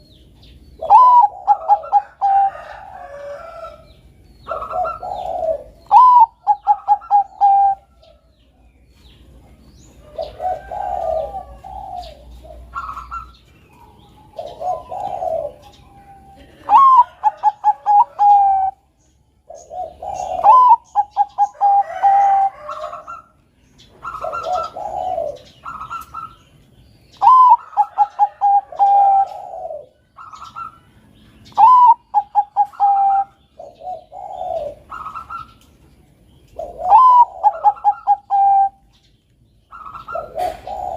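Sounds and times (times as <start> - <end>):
dove cooing song: 0.0 - 40.9.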